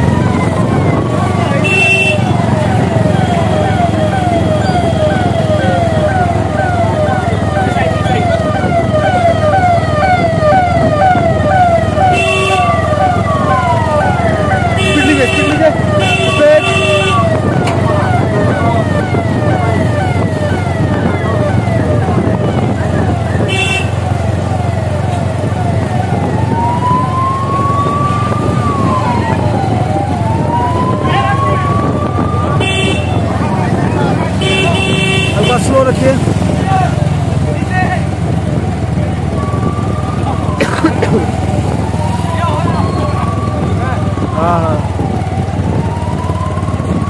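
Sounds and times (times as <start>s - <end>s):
electronic siren sweeping down: 0.0s - 34.4s, 38.6s - 40.6s, 41.3s - 47.0s
engine rumbling: 0.0s - 47.0s.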